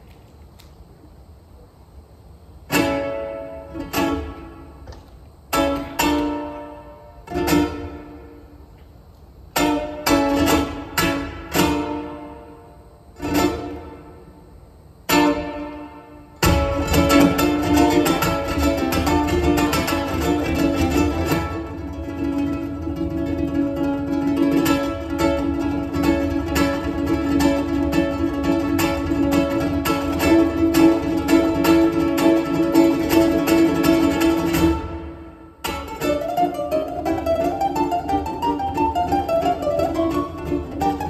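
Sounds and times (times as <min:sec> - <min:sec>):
ukulele chords ringing: 0:02.7 - 0:04.9, 0:05.5 - 0:08.6, 0:09.4 - 0:41.0
fast ukulele strumming: 0:02.7 - 0:08.6, 0:09.5 - 0:14.3, 0:15.1 - 0:41.0.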